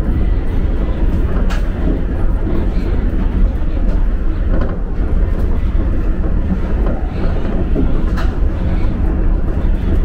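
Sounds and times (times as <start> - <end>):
monorail car rumbling: 0.0 - 10.0.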